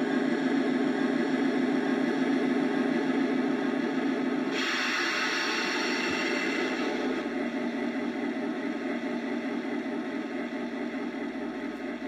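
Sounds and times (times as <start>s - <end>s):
diesel engine idle from small speaker: 0.0s - 12.0s.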